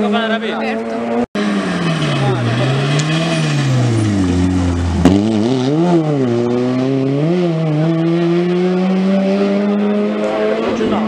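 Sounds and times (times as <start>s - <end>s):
rally car engine revving hard: 0.7s - 11.0s.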